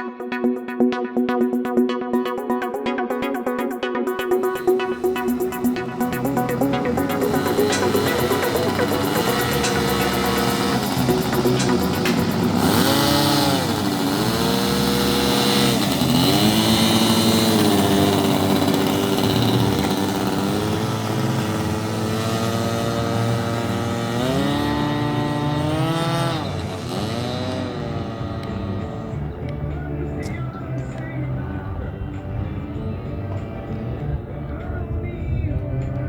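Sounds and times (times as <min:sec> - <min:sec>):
model airplane engines running: 0:04.4 - 0:35.3.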